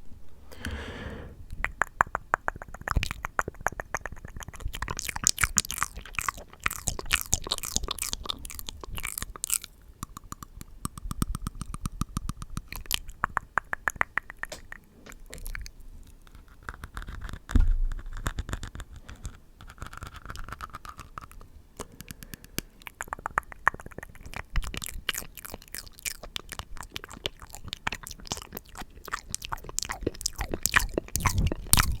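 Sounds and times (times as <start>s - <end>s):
wet mouth clicks and smacks: 1.5s - 32.0s.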